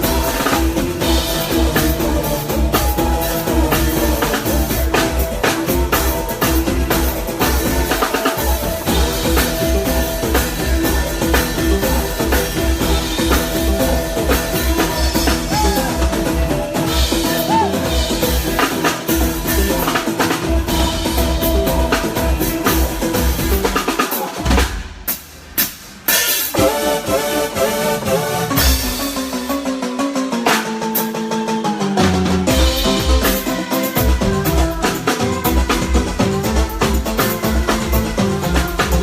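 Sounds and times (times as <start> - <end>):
bass drum beat: 0.0 - 25.0, 32.1 - 39.0
live band playing: 0.0 - 39.0.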